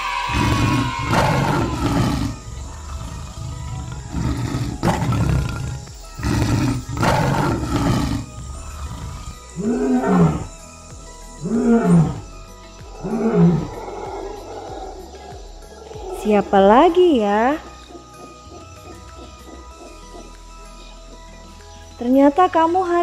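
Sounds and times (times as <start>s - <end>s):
lion roaring: 0.0s - 16.7s, 17.4s - 21.3s.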